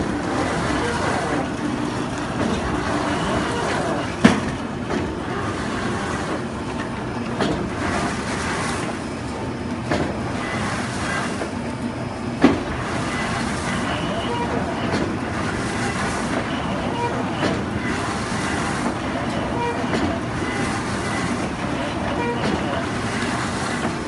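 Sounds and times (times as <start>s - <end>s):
machine running: 0.0s - 24.0s.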